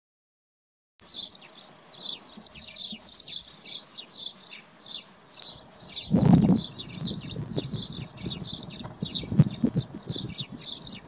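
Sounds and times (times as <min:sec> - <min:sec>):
bird chirping: 0:01.0 - 0:11.0.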